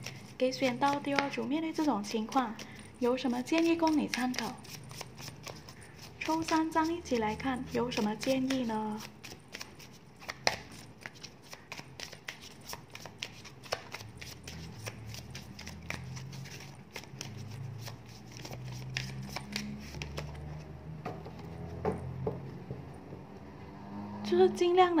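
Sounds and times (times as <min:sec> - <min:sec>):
cards being shuffled: 0:00.0 - 0:21.8.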